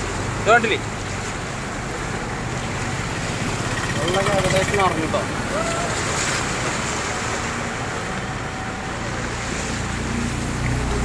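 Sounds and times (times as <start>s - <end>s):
floodwater rushing: 0.0s - 11.0s
van engine: 0.0s - 11.0s.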